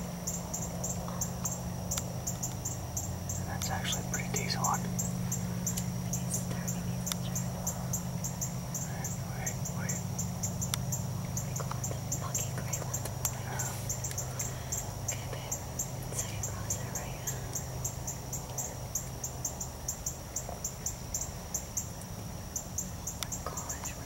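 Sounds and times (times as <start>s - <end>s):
insects chirping: 0.0s - 24.0s
low steady hum: 0.0s - 24.0s.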